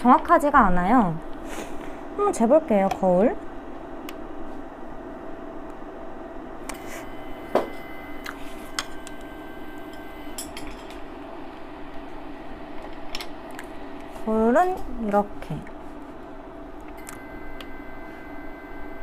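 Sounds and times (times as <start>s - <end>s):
steady hum with faint tones: 0.0s - 19.0s.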